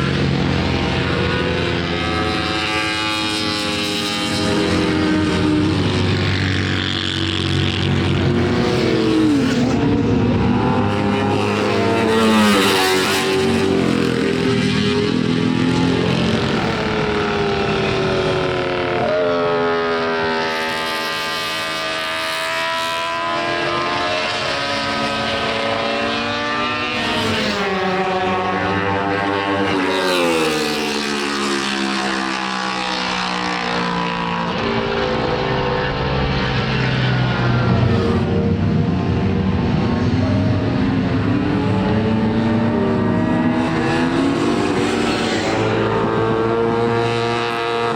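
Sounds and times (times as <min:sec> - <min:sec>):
racing motorcycle engine revving: 0:00.0 - 0:47.9.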